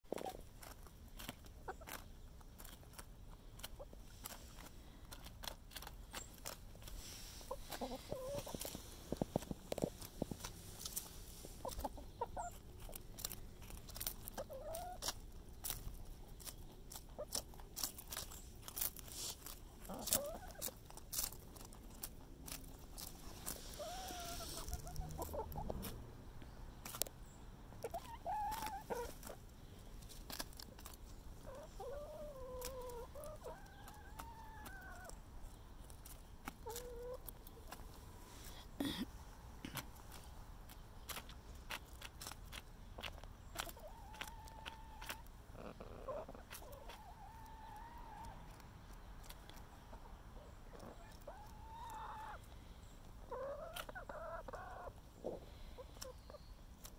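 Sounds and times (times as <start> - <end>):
hens clucking: 0.1 - 27.1, 27.7 - 38.8, 39.7 - 56.9
hens pecking cabbage: 0.1 - 56.9.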